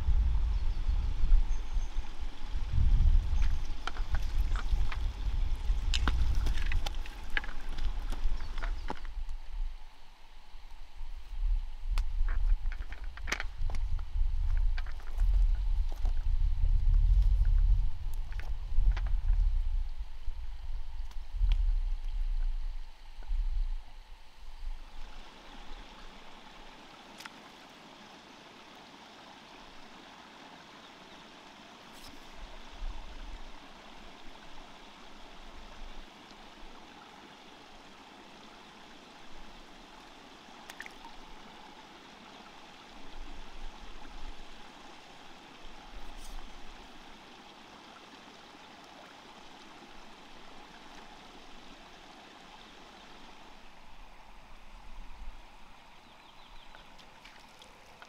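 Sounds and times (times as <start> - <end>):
stream water flowing: 0.0 - 16.8, 17.6 - 58.0.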